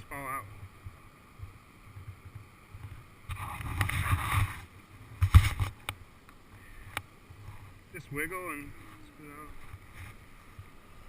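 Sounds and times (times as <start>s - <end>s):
water splashing around kayak: 0.0s - 11.0s.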